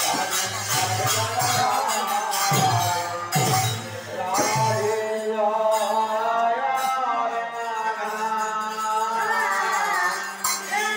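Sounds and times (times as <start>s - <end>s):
voices chanting a devotional melody: 0.0s - 10.9s.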